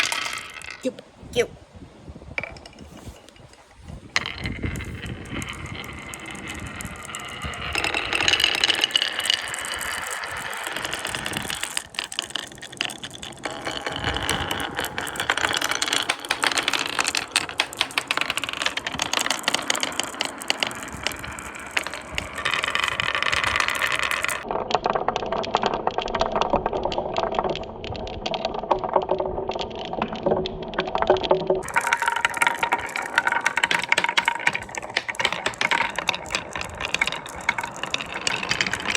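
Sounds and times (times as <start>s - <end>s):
balls rattling down marble run: 0.0s - 1.5s, 2.4s - 38.9s.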